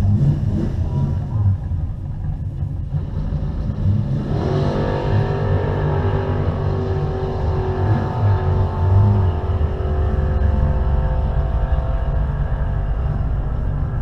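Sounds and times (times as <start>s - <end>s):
engine revving: 0.0s - 1.8s, 2.6s - 14.0s
car engine idling: 0.0s - 4.2s, 5.0s - 14.0s.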